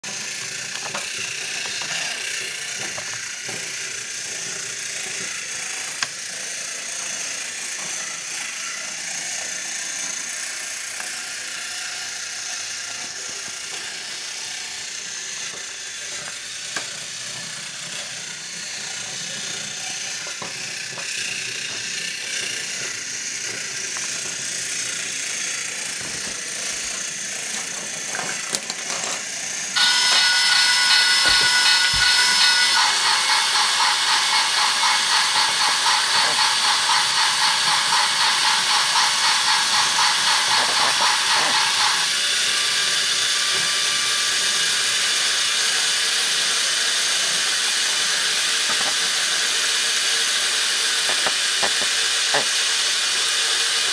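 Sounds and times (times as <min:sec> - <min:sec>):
toy train motor whirring: 0:00.0 - 0:53.9.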